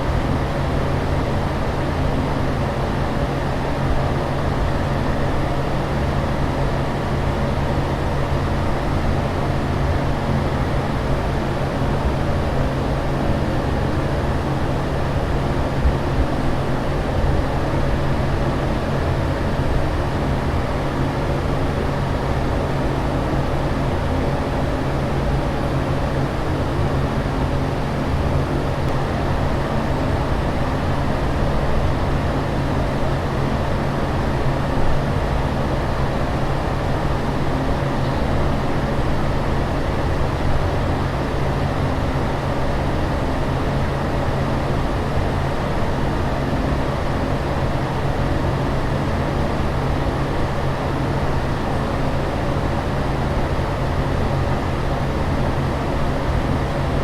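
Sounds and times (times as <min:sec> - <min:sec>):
constant low hum: 0:00.0 - 0:57.0.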